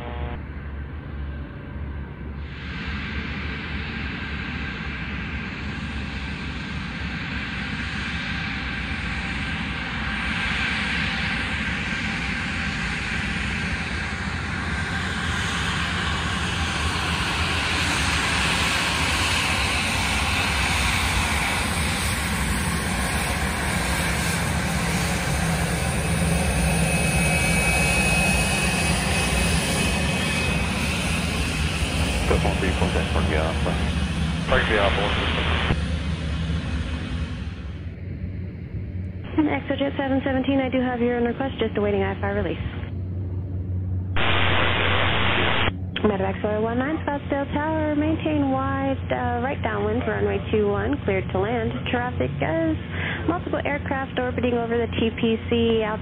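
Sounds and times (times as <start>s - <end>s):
jet taxiing whine and rush: 0.0s - 56.0s.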